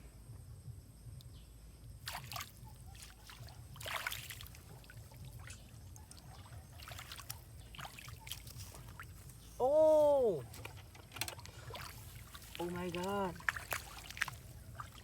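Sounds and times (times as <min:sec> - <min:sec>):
water splashing and trickling: 0:02.0 - 0:15.0.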